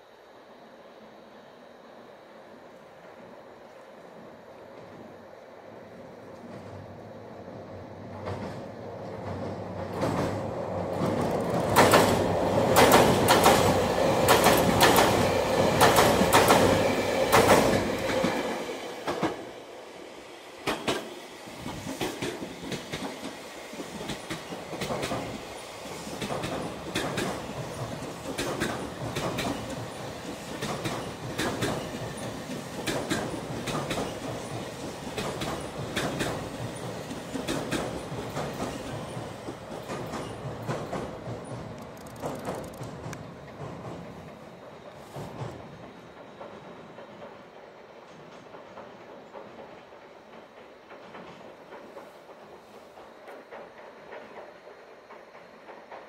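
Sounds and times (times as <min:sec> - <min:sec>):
train wheels clacking over joints: 0:08.1 - 0:19.5, 0:20.6 - 0:56.0.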